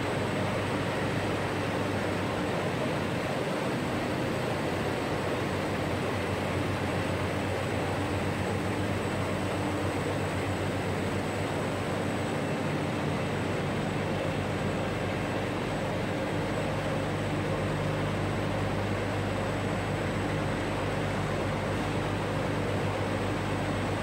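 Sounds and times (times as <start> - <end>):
continuous low machinery hum: 0.0 - 24.0.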